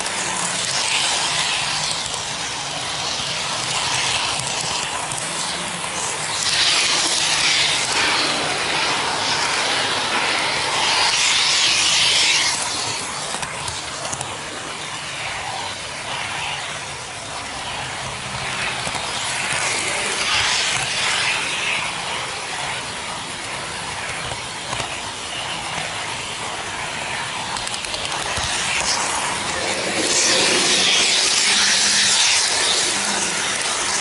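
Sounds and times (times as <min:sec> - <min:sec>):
model train mechanical hiss: 0:00.0 - 0:34.0.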